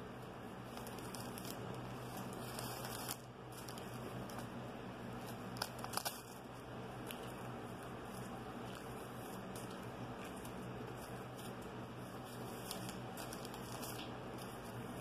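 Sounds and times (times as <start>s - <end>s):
newspaper crinkling and tearing: 0.6s - 4.5s, 5.1s - 15.0s.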